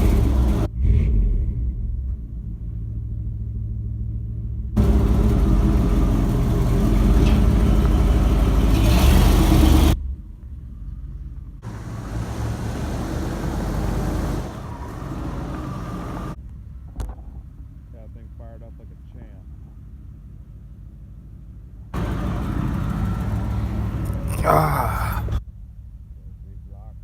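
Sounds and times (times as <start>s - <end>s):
truck engine running: 1.7s - 25.1s.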